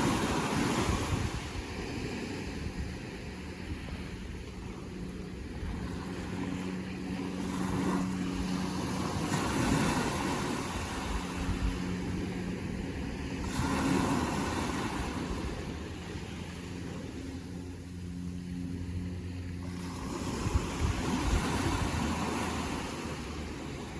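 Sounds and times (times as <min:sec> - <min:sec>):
ocean waves washing in: 0:00.0 - 0:23.9
steady low hum: 0:00.0 - 0:23.9.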